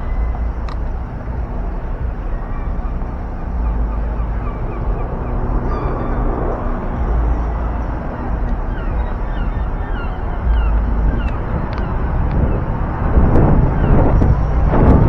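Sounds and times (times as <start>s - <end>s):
steady low hum: 0.0s - 15.0s
wind rumbling on microphone: 0.0s - 15.0s.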